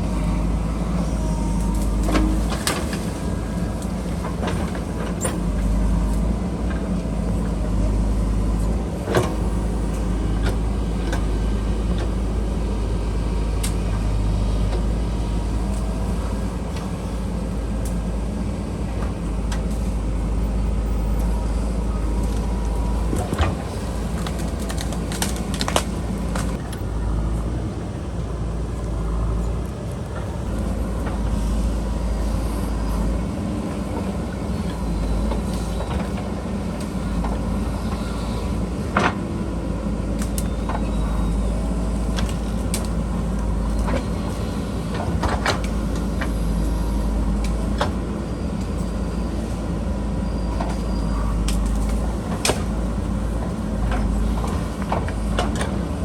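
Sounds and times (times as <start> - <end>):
backhoe diesel engine digging: 0.0 - 56.0.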